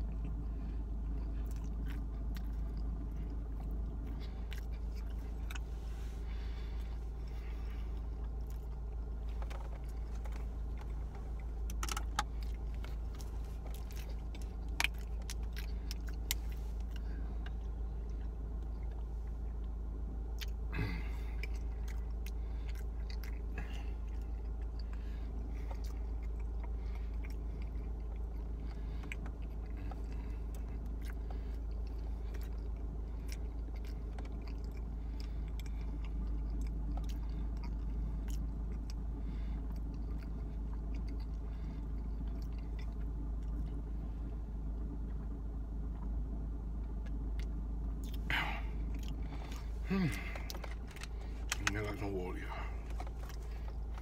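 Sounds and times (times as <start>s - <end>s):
person chewing food: 0.0s - 54.0s
steady low hum: 0.0s - 54.0s.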